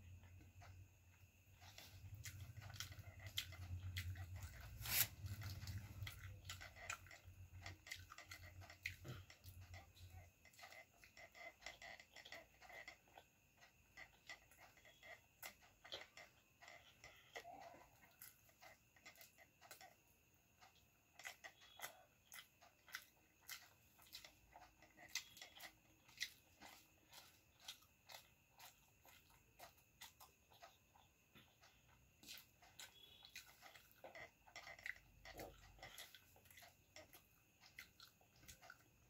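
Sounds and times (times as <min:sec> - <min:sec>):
chewing pasta: 0:00.0 - 0:39.0.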